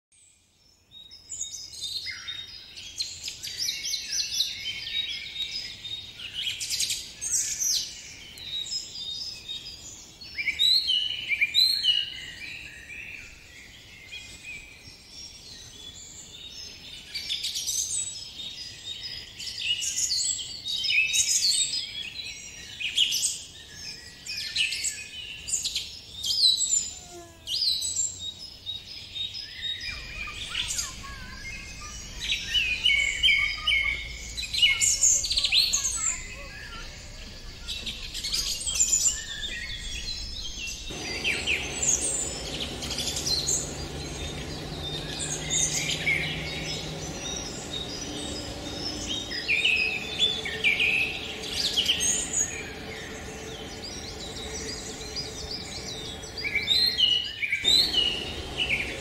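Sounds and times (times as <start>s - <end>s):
songbirds singing and chirping: 0.2s - 26.9s, 27.5s - 59.0s.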